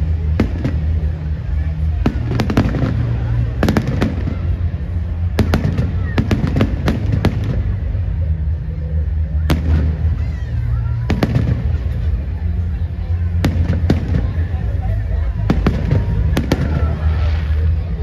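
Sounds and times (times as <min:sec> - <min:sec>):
fireworks bangs and crackles: 0:00.0 - 0:18.0
steady low rumble: 0:00.0 - 0:18.0.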